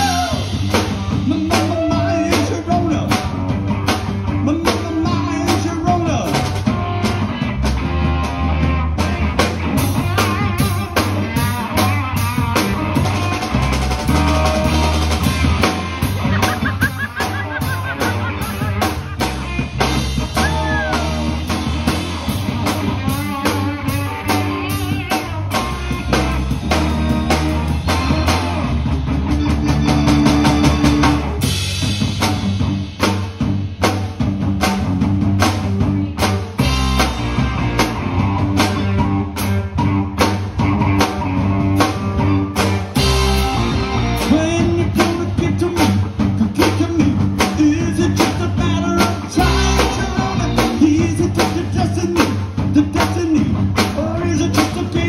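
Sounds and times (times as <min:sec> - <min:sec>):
bass line: 0:00.0 - 0:55.0
drum kit: 0:00.0 - 0:55.0
electric guitar: 0:00.0 - 0:55.0.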